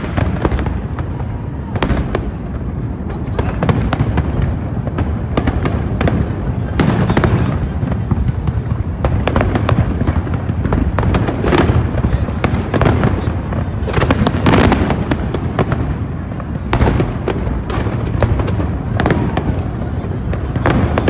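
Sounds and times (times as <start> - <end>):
rumble of firework bursts: 0.0 - 21.0
sharp firework cracks: 0.0 - 21.0.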